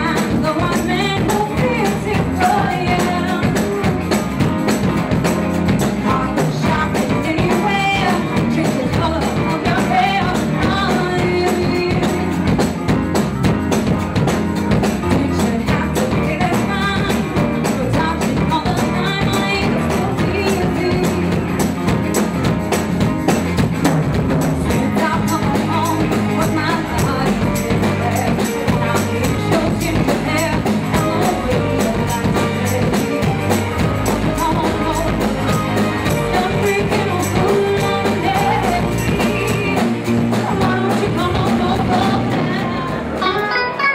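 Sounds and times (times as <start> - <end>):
woman singing: 0.0 - 13.0, 14.6 - 22.6, 24.6 - 43.9
drum kit beat: 0.0 - 43.9
live band playing: 0.0 - 43.9.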